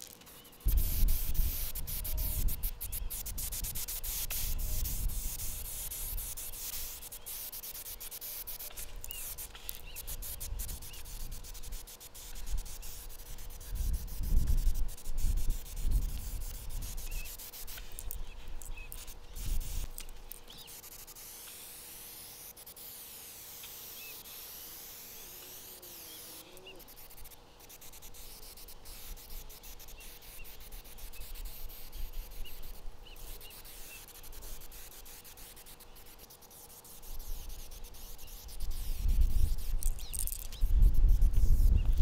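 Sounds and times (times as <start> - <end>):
spray paint can hissing: 0.0 - 42.0.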